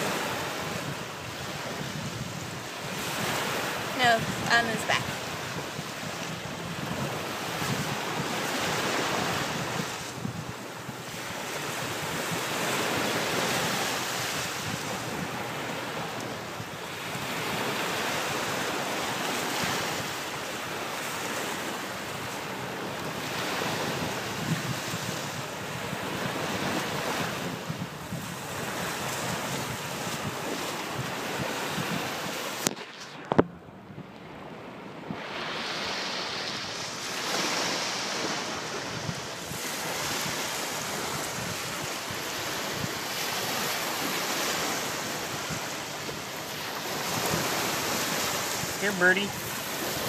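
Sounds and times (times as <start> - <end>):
ocean surf on beach: 0.0 - 50.0
wind buffeting microphone: 0.0 - 50.0.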